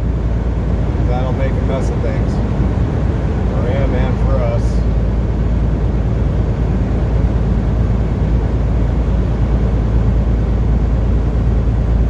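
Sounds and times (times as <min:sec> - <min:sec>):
road and engine rumble in cabin: 0:00.0 - 0:12.0.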